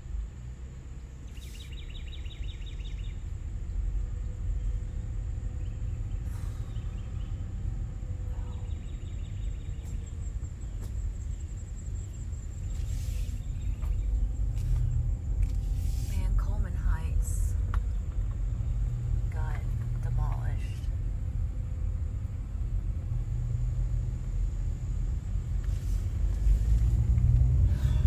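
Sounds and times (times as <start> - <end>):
road and engine rumble: 0.0 - 28.0
faint rhythmic chirping: 0.9 - 23.5, 24.9 - 28.0.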